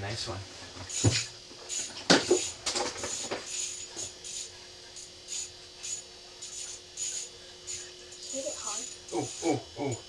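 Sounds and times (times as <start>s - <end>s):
fishing reel whirring: 0.9s - 10.0s.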